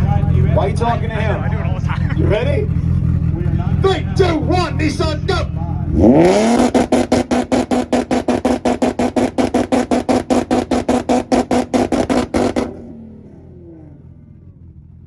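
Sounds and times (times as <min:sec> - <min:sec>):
engine popping on launch limiter: 0:00.0 - 0:14.7.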